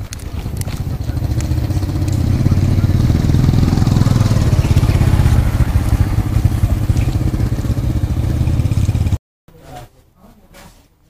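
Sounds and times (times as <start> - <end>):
small motorcycle engine running: 0.0 - 9.2.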